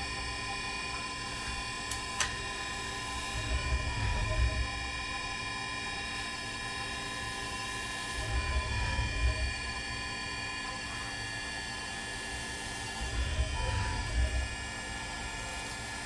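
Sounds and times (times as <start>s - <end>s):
mill spindle whining: 0.0s - 16.0s.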